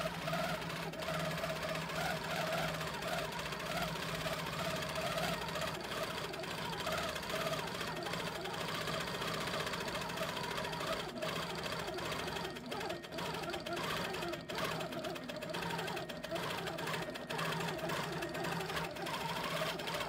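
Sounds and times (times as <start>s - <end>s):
quilting machine stitching: 0.0s - 20.0s.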